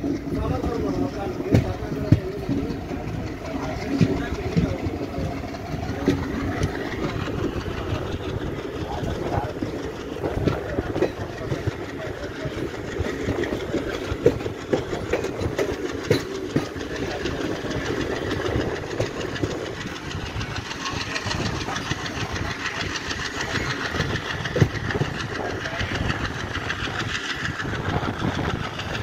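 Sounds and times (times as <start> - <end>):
steel wheels rumbling on rails: 0.0 - 29.0
wheels clacking over rail joints: 0.0 - 29.0.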